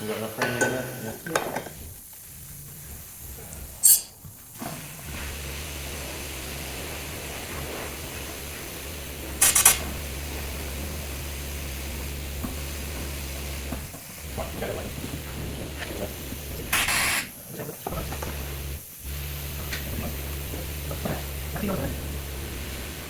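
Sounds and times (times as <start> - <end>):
compressed air hissing: 0.7 - 23.0
steady low hum: 1.8 - 23.0.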